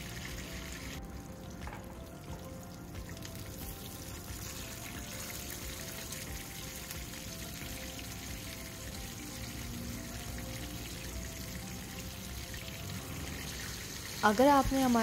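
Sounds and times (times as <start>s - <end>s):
fish sizzling in hot oil: 0.0s - 15.0s
soft background music: 0.0s - 15.0s.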